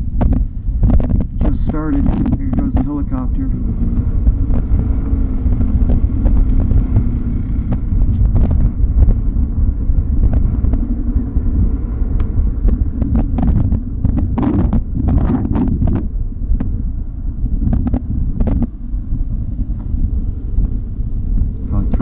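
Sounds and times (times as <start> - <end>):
faint steady hum: 0.0 - 22.0
wind buffeting microphone: 0.0 - 22.0.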